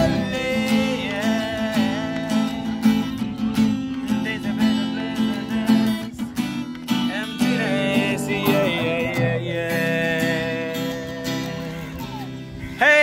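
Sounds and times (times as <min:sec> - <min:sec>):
acoustic guitar strumming: 0:00.0 - 0:13.0
guitar melody line bending: 0:00.0 - 0:13.0.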